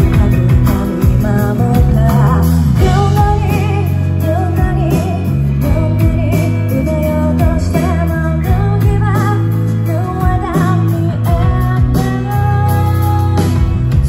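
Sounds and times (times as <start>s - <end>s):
acoustic guitar: 0.0s - 14.0s
bass guitar line: 0.0s - 14.0s
woman singing with vibrato: 0.0s - 14.0s.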